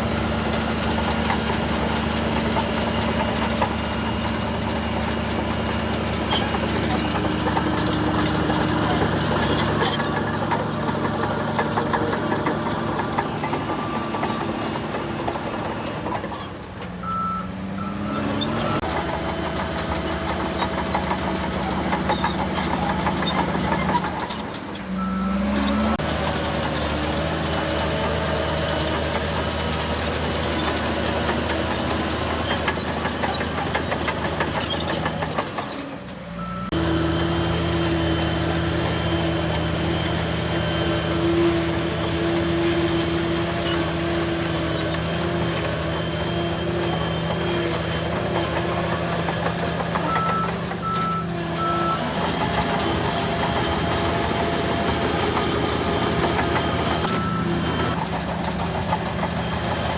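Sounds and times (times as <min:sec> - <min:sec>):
bulldozer diesel engines running: 0:00.0 - 0:59.9.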